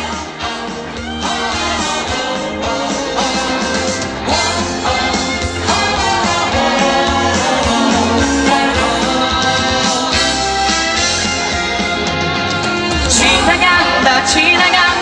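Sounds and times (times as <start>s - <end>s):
pop song with bass beat and guitar: 0.0s - 15.0s.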